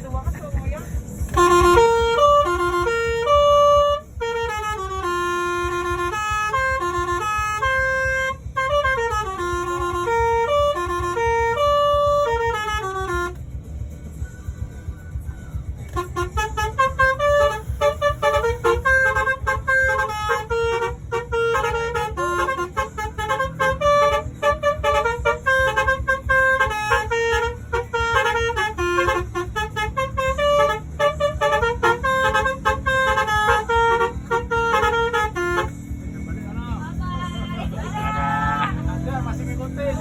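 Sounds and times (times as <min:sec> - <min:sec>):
steady low rumble: 0:00.0 - 0:40.0
musical air horn playing a tune: 0:01.3 - 0:13.4, 0:15.8 - 0:36.1.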